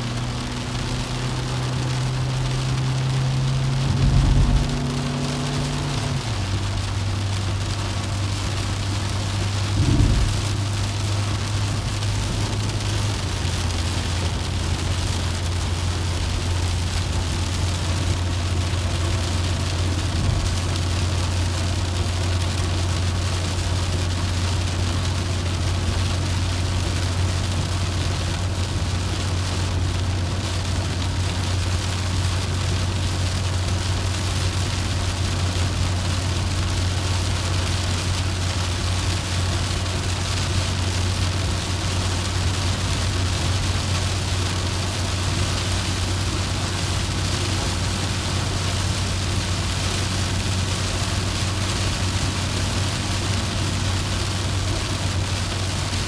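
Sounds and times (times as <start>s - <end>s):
car tyres rumbling on wet road: 0.0s - 56.0s
rain hissing on car: 0.0s - 56.0s.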